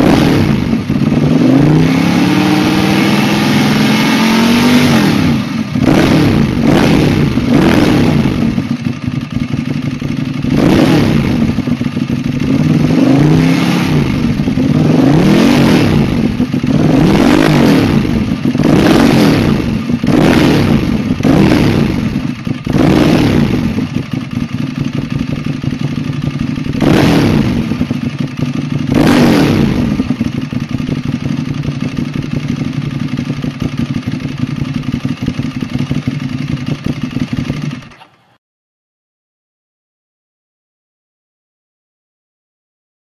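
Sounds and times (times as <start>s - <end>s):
motorcycle engine revving and idling: 0.0s - 38.4s.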